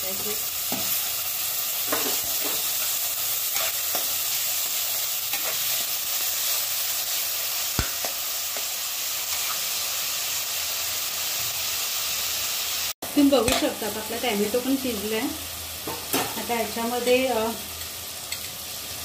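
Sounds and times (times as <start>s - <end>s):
onion and tomato sizzling in oil: 0.0s - 19.0s.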